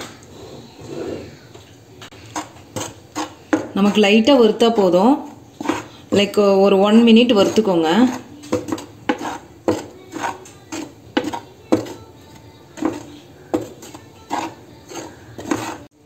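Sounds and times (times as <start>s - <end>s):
utensil scraping pan: 2.1s - 15.9s.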